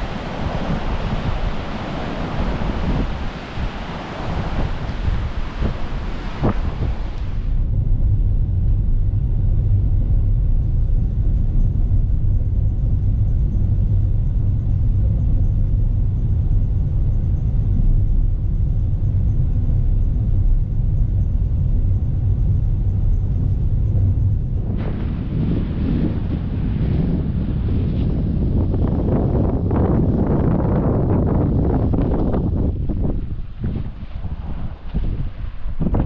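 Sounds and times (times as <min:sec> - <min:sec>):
car engine and tyres rumbling: 0:00.0 - 0:35.2.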